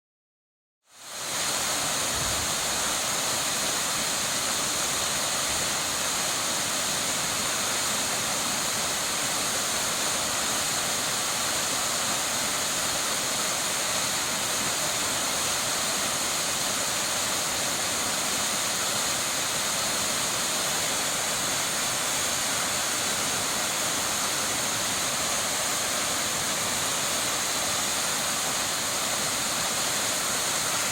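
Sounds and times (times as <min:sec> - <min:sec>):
waterfall rushing: 0:01.0 - 0:30.9.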